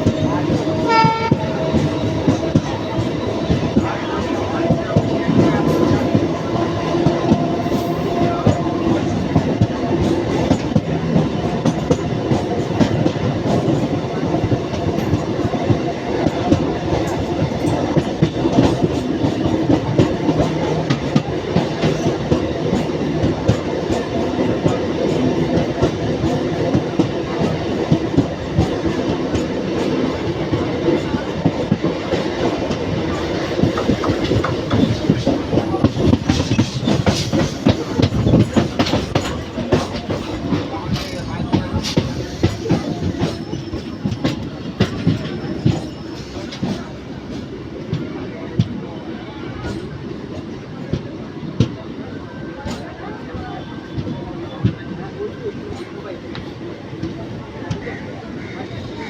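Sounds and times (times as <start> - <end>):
train wheels rattling on rail: 0.0 - 59.0.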